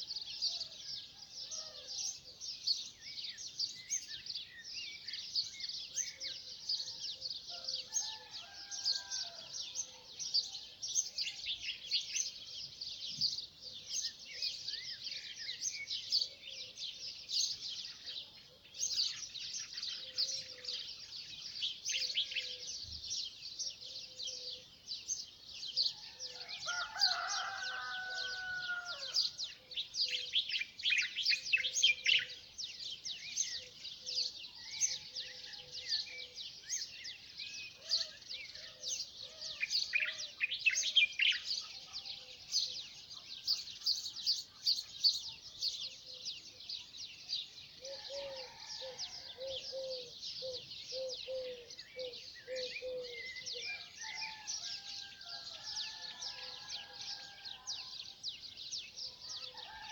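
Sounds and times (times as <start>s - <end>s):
lower multi-tone bird call: 0.0s - 59.9s
small birds chirping: 0.0s - 59.9s.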